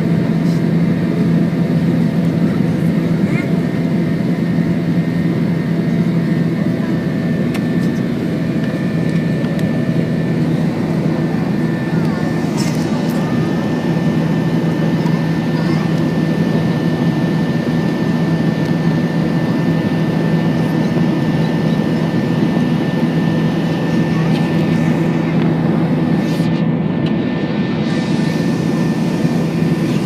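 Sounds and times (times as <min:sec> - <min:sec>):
faint steady whine: 0:00.0 - 0:30.0
jet engines droning in cabin: 0:00.0 - 0:30.0.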